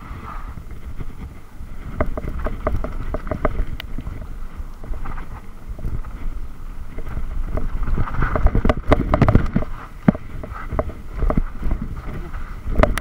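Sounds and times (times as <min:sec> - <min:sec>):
bike rattling over rough ground: 0:00.0 - 0:13.0
wind rumbling on microphone: 0:00.0 - 0:13.0.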